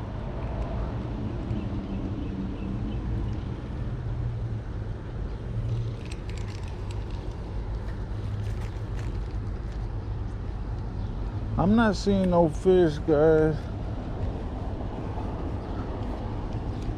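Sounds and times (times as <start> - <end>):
traffic rumble: 0.0 - 16.9.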